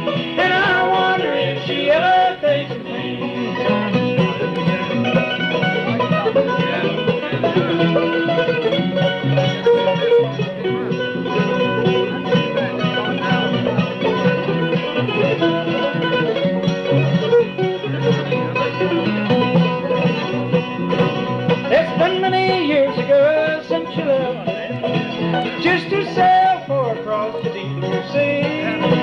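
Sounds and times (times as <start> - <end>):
string band playing bluegrass: 0.0 - 29.0.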